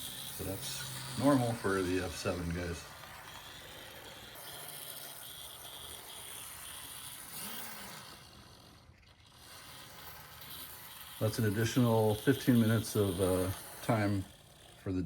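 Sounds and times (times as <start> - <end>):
small electric motor and gears whirring: 0.0 - 15.0.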